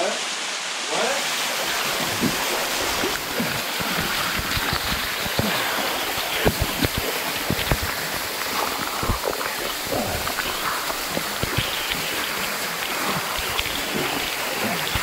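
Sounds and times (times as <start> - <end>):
waterfall pouring into pool: 0.0 - 15.0
person wading and swimming: 1.4 - 15.0.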